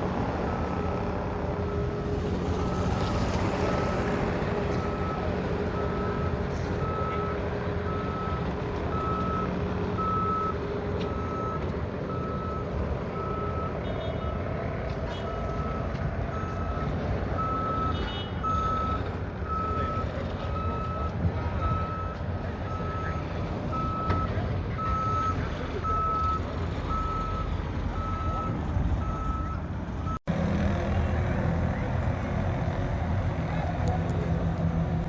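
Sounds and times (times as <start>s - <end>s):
vehicle reversing alarm beeping: 0.0s - 30.2s
engine rumbling: 0.0s - 35.0s.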